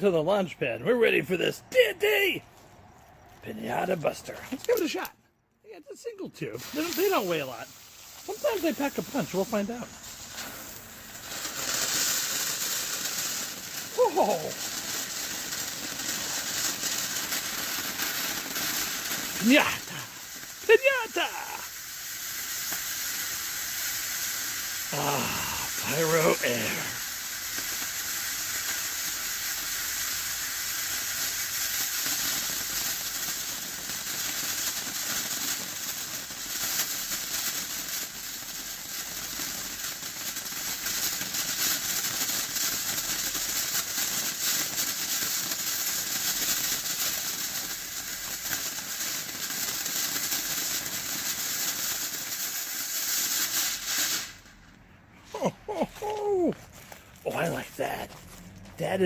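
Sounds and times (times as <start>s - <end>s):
firework fountain hissing sparks: 0.0s - 5.2s, 5.9s - 59.0s.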